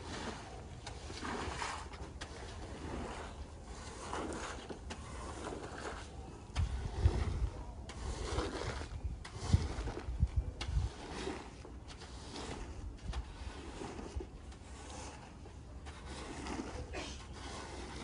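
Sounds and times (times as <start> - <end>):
squeegee swishing across wet rug: 0.0 - 18.0.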